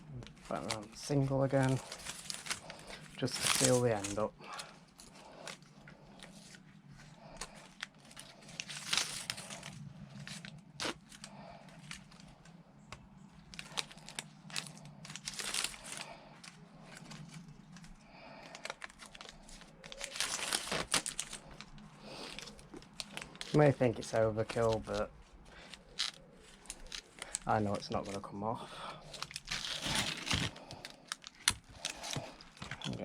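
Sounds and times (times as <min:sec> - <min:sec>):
steady low hum: 0:00.0 - 0:33.0
tape crinkling and rustling: 0:00.0 - 0:33.0.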